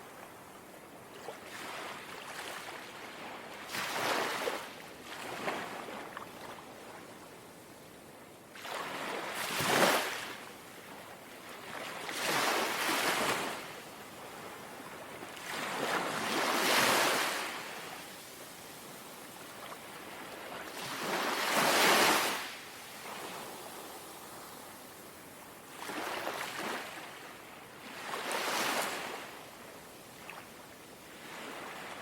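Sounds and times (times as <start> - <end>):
gentle sea waves lapping: 0.0 - 7.3, 8.5 - 32.0.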